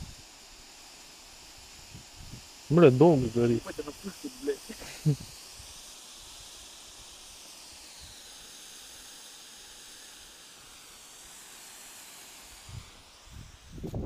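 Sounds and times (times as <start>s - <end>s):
smoke bomb hissing: 0.0s - 14.0s.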